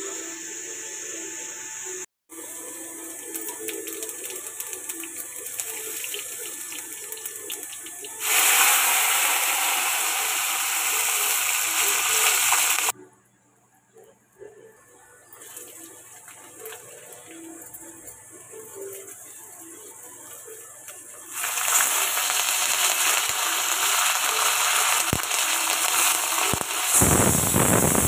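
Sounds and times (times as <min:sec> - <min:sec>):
loud steady sizzle: 0:00.0 - 0:13.0, 0:15.3 - 0:28.0
seeds crackling in hot oil: 0:02.3 - 0:13.0, 0:15.3 - 0:28.0.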